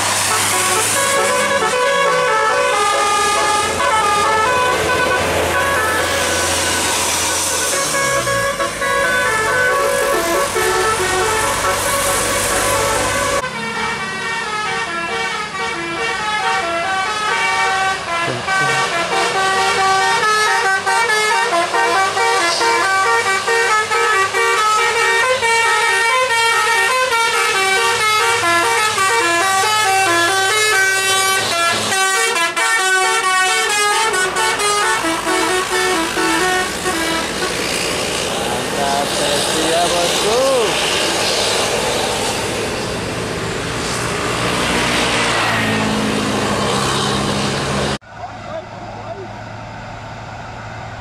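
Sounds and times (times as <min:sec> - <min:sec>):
musical bus air horn: 0:00.0 - 0:41.4.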